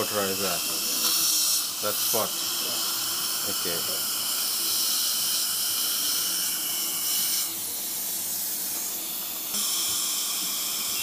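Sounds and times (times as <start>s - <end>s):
dental suction hissing: 0.0s - 11.0s.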